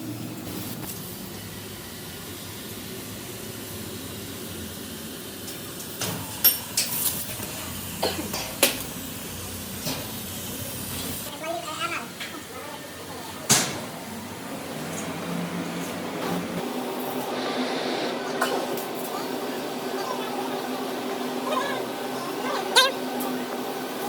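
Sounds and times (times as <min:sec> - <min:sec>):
workshop background noise: 0:00.0 - 0:24.0.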